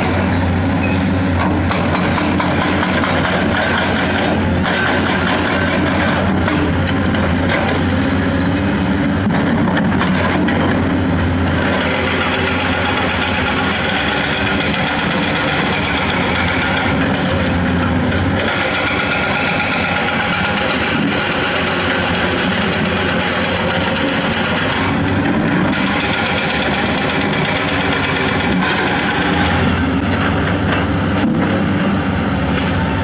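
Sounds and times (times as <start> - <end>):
excavator diesel engines droning: 0.0 - 33.0.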